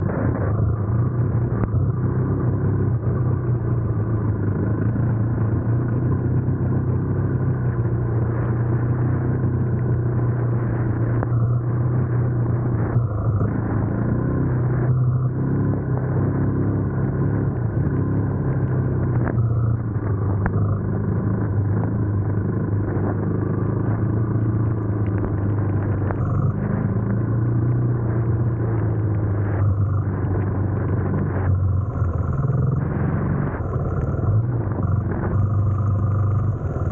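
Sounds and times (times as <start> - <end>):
quad engine running: 0.0 - 36.9.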